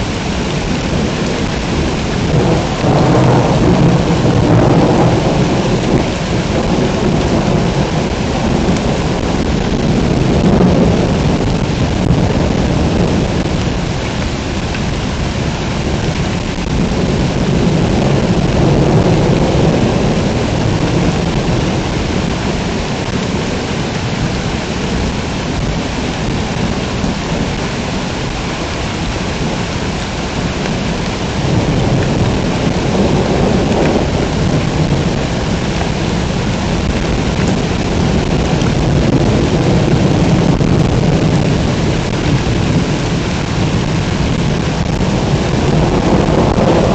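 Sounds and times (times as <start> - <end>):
heavy rain pouring: 0.0 - 46.9
low rolling thunder: 0.0 - 46.9.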